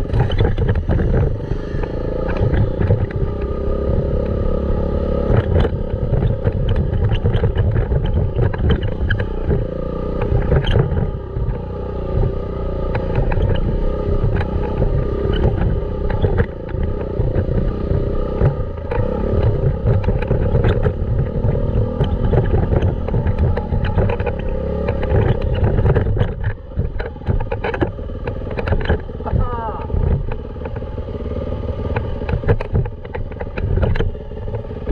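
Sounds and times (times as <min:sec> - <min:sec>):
short knocks and clatter: 0:00.0 - 0:04.4, 0:05.2 - 0:31.0, 0:31.8 - 0:34.9
dirt bike engine running: 0:00.0 - 0:34.9.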